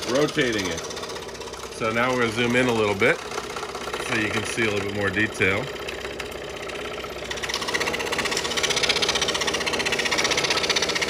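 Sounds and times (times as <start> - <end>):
scroll saw cutting wood: 0.0 - 11.0.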